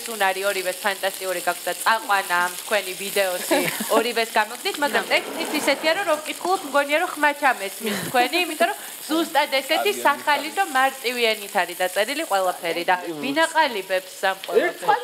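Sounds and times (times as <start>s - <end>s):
woman talking: 0.0s - 15.0s.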